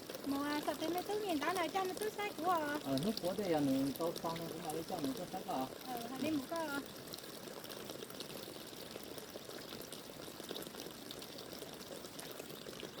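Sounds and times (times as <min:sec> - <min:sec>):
water splashing trickle: 0:00.0 - 0:13.0.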